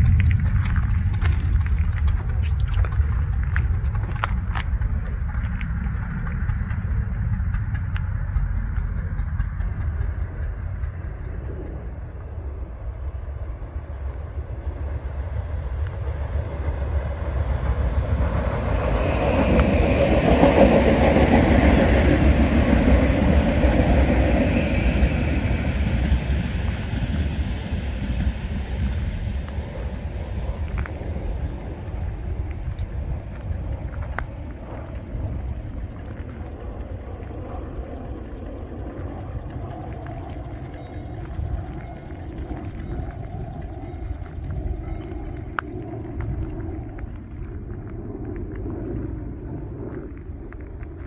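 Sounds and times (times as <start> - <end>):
passenger train passing: 0.0 - 51.0
steady low rumble: 0.0 - 51.0.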